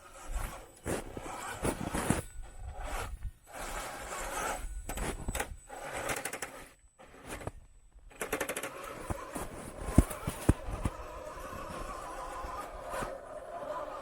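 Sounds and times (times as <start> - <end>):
toy car motor rattling: 0.0 - 7.5, 8.1 - 14.0.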